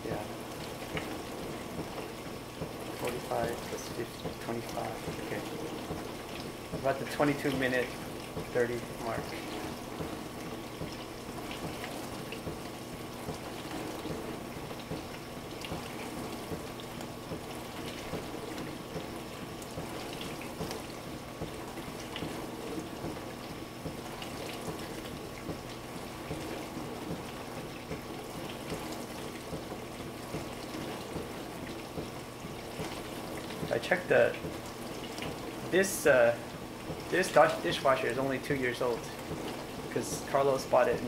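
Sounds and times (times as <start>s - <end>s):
dishwasher motor hum: 0.0s - 41.0s
water spraying inside dishwasher: 0.0s - 41.0s.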